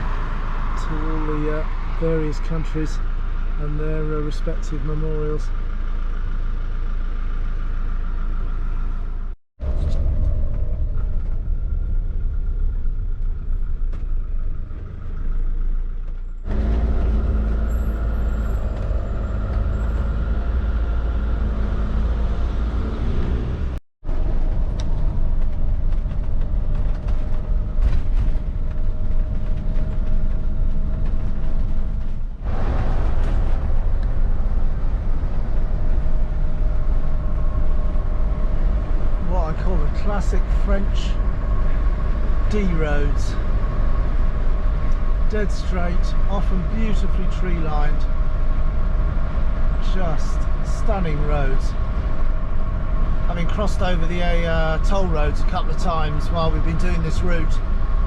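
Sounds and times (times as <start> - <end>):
motorhome engine and tyre rumble: 0.0 - 58.0.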